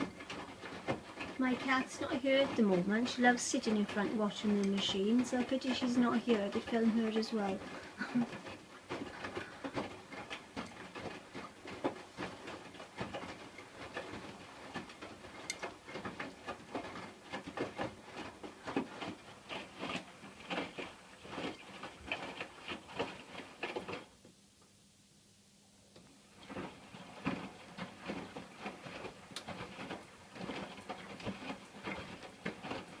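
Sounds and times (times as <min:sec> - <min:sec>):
washing machine laundry sloshing: 0:00.0 - 0:24.2, 0:26.1 - 0:33.0.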